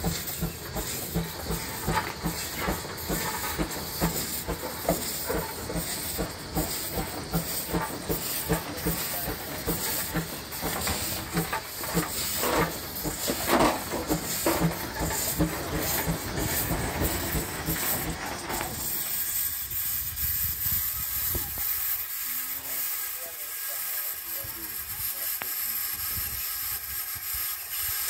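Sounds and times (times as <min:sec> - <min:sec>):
steam engine chuffing: 0:00.0 - 0:28.0
steam hissing: 0:00.0 - 0:28.0.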